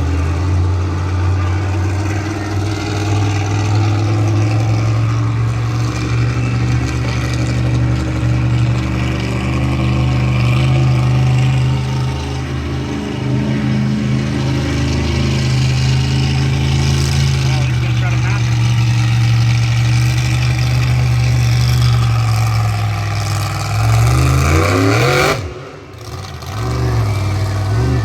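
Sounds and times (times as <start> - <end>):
monster truck engine running: 0.0 - 28.0.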